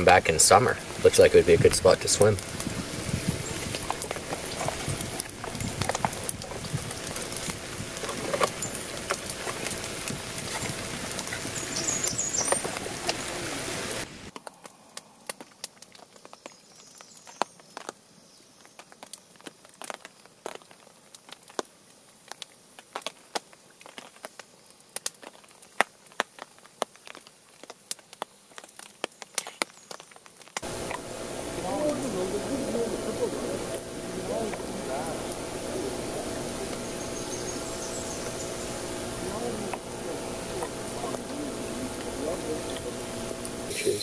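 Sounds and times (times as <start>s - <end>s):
campfire crackling and popping: 0.0s - 44.0s
rain pattering on a tarp: 0.0s - 44.0s.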